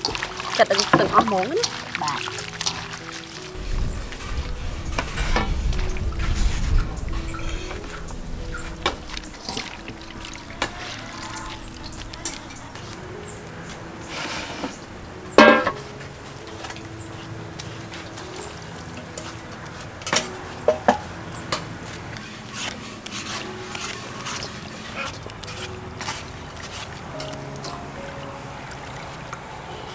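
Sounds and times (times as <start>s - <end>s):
metal bowls and utensils clinking: 0.0s - 6.0s, 7.2s - 28.2s
soft background music: 0.0s - 29.9s.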